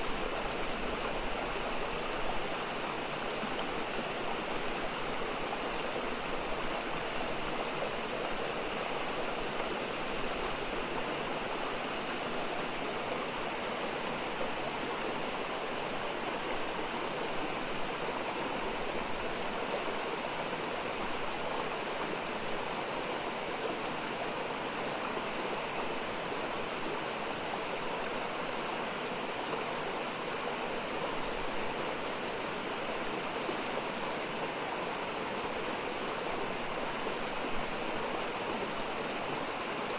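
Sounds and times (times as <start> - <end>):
stream water flowing over rocks: 0.0 - 39.9.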